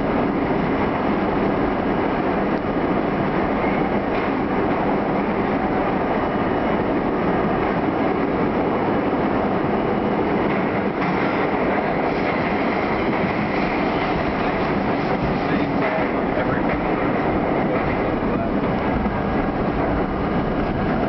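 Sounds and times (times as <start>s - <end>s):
subway wheels rumbling on rails: 0.0s - 21.0s.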